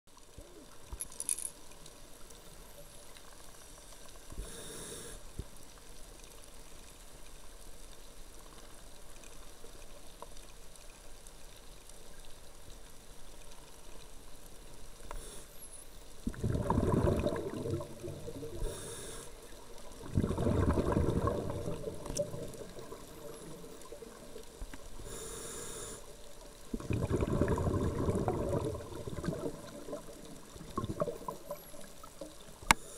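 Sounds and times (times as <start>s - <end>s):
underwater water noise: 0.1s - 32.9s.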